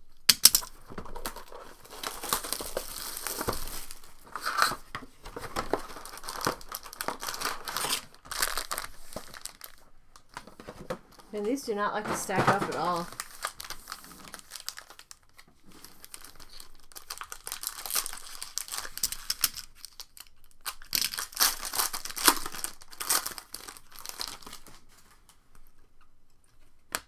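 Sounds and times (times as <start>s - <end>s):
wrappers crinkling and tearing: 0.6s - 25.2s.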